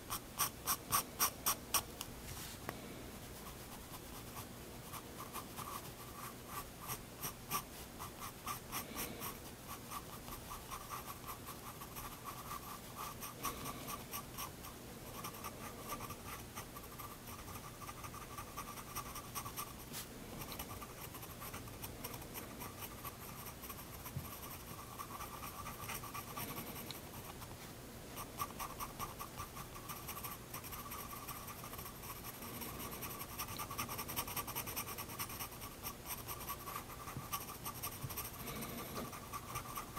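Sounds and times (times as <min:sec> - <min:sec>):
pencil scratching on paper: 0:00.0 - 0:01.9, 0:03.3 - 0:27.6, 0:28.2 - 0:39.9.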